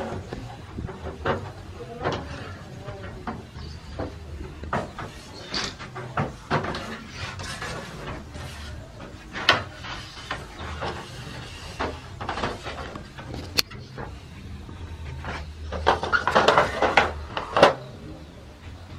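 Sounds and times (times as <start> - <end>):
metal trays scraping and clanking: 0.0 - 18.2.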